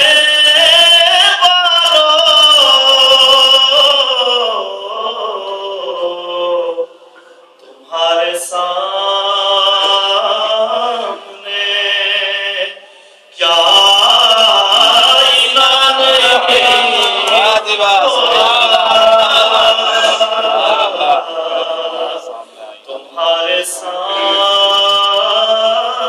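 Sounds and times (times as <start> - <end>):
man singing unaccompanied: 0.0 - 7.0, 7.7 - 26.0.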